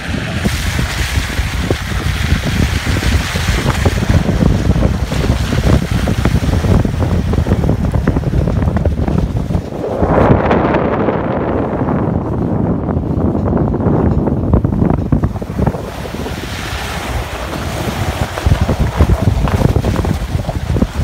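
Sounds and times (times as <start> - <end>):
vehicle rumble: 0.0 - 21.0
wind buffeting microphone: 0.0 - 21.0.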